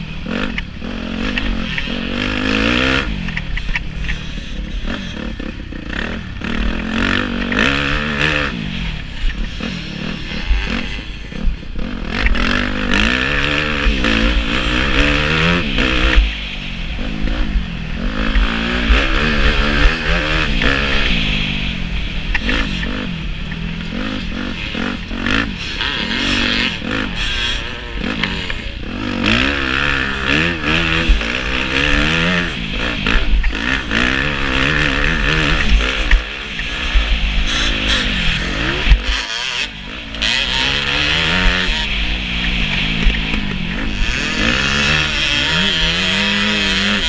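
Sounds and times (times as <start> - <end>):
motorbike engine revving: 0.0 - 47.0.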